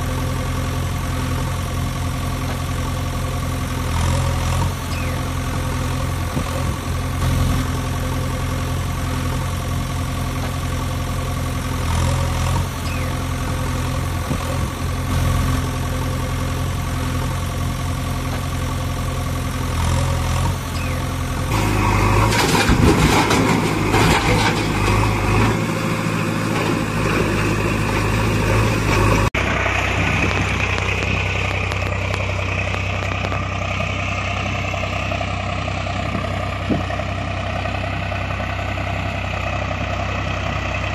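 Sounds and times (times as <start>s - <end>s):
heavy engine idling: 0.0s - 40.9s.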